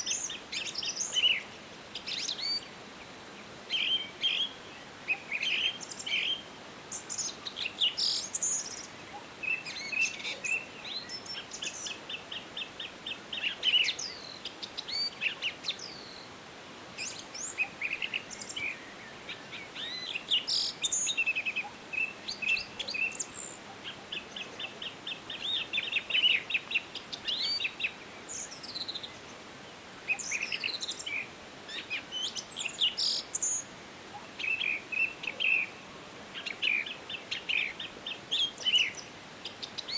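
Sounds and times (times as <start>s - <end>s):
faint steady background noise: 0.0s - 39.9s
songbirds singing: 0.0s - 39.9s.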